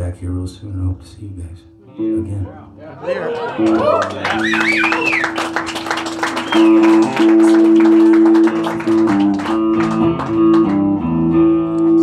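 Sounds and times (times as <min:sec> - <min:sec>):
electric guitars playing slowly: 0:00.0 - 0:12.0.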